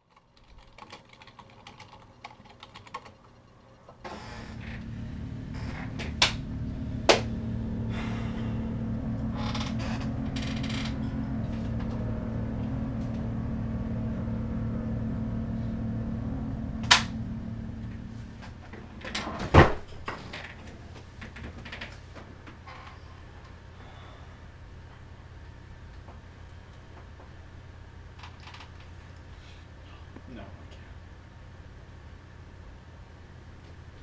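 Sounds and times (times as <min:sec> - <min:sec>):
steady low hum: 0:03.1 - 0:34.0.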